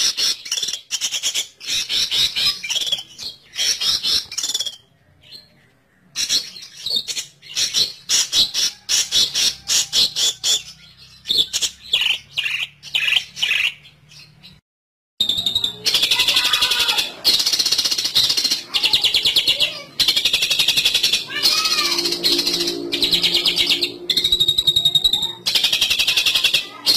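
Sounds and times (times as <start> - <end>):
bird harsh scolding calls: 0.0 - 5.5, 6.1 - 14.5, 15.2 - 26.9.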